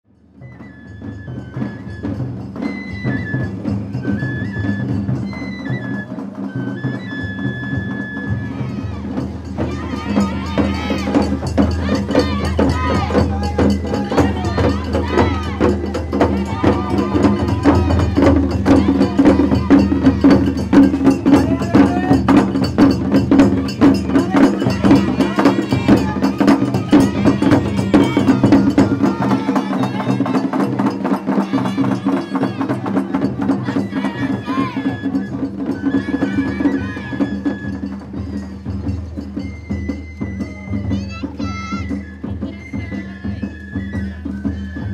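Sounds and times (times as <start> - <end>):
bamboo flute melody: 0.1 - 44.9
taiko drum beats: 0.1 - 44.9.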